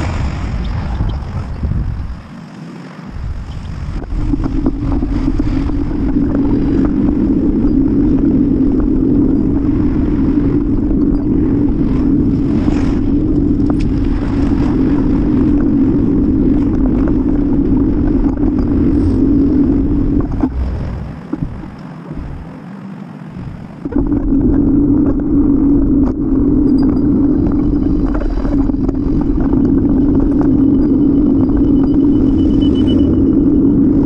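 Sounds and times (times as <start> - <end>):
bicycle road rumble: 0.0 - 34.0
wind buffeting microphone: 0.0 - 34.0.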